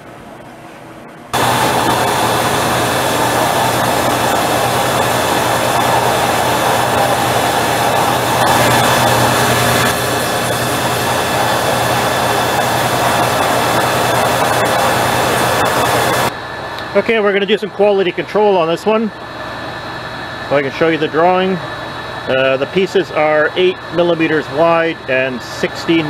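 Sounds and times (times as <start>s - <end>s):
workshop machine hiss and hum: 0.0s - 26.0s.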